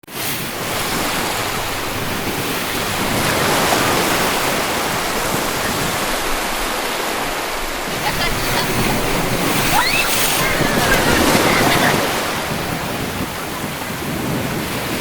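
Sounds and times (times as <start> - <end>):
ocean waves washing: 0.0 - 15.0.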